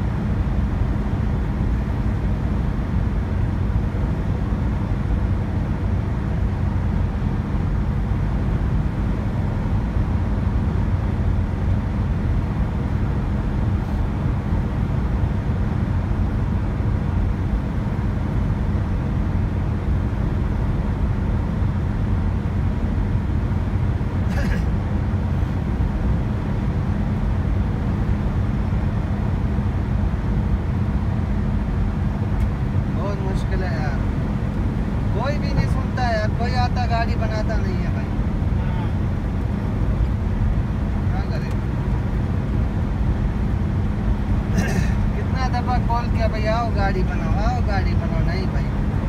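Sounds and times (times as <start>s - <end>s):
car road and engine noise: 0.0s - 49.0s
faint constant hum: 0.0s - 49.0s.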